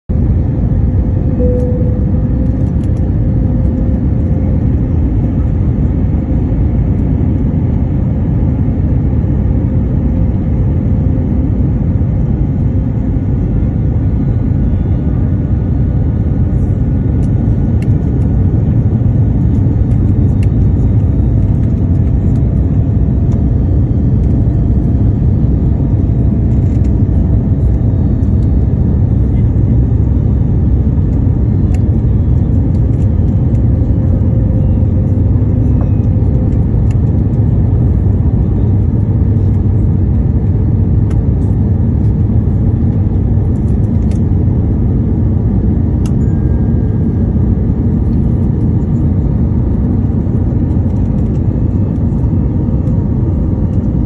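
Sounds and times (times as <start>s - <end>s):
jet engine and airflow rumble: 0.0s - 54.0s
faint steady whine: 0.1s - 54.0s.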